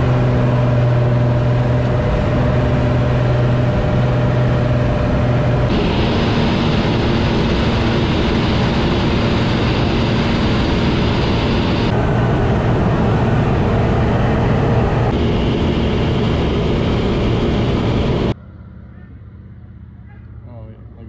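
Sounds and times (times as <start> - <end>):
plane engine and propeller drone: 0.0 - 21.0.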